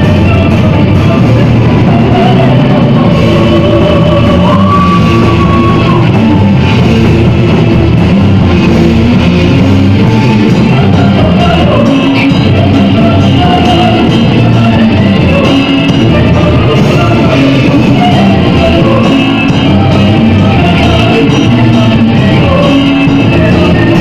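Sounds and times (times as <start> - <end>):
metal band playing live: 0.0 - 24.0.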